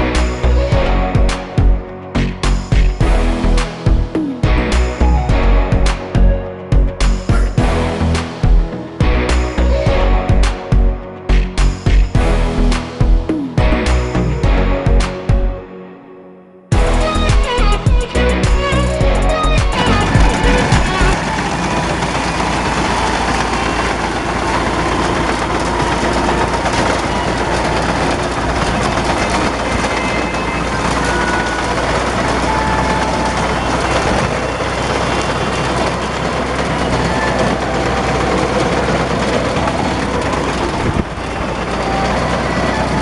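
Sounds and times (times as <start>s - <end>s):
tractor engine running under load: 0.0s - 15.5s, 16.7s - 43.0s.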